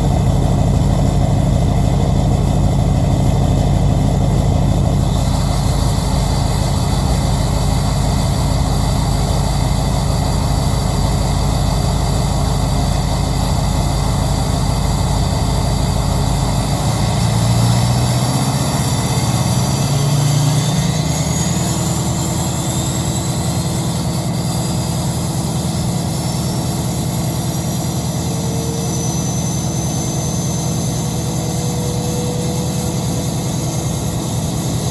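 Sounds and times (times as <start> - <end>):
diesel engine idling: 0.0 - 34.9
thin high turbo whistle: 4.3 - 34.9.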